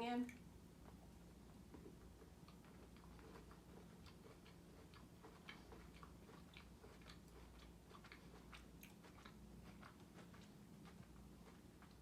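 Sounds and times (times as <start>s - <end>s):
person chewing crunchy chocolate: 0.4s - 12.0s.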